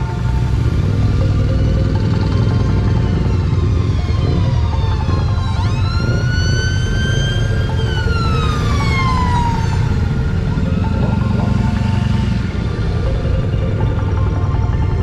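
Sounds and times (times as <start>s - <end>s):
background music: 0.0s - 15.0s
siren-like wail: 0.0s - 15.0s.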